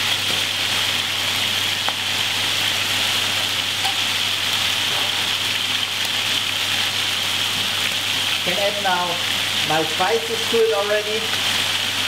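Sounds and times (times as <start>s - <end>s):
chicken sizzling in pan: 0.0s - 12.0s.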